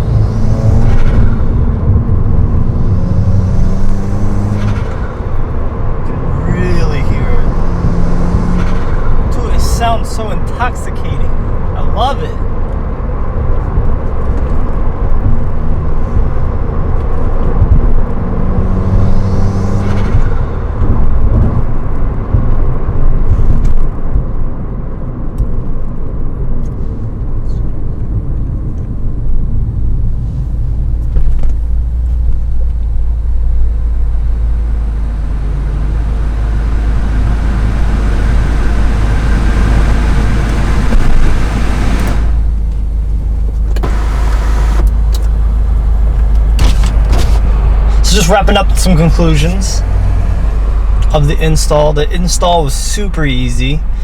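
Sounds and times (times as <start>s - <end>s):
car engine exhaust rumble: 0.0s - 54.0s.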